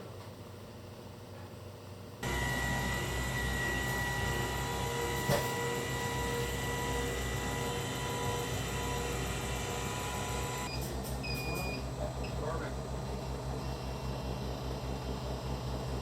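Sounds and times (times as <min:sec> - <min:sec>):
electric motor hum with high whine: 0:00.0 - 0:16.0.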